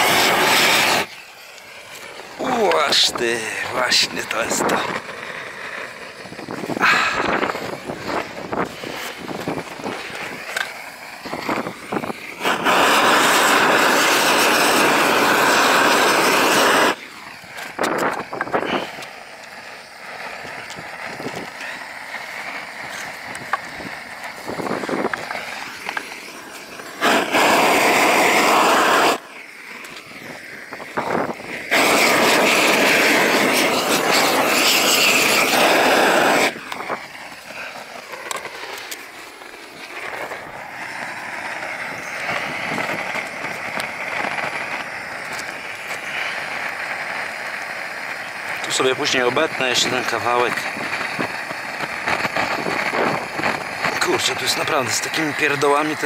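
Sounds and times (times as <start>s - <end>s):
gas torch flame blowing: 0.0s - 56.0s.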